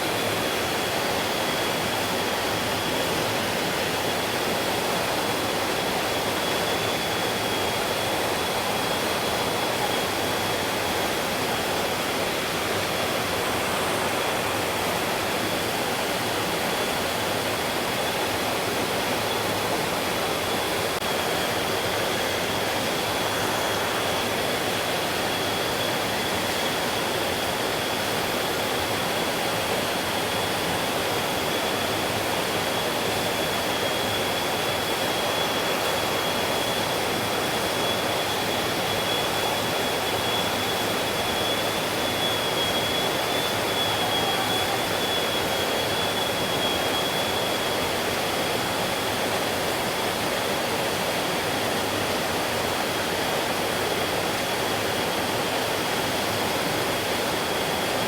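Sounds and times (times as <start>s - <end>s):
thin high whine: 0.1s - 52.6s.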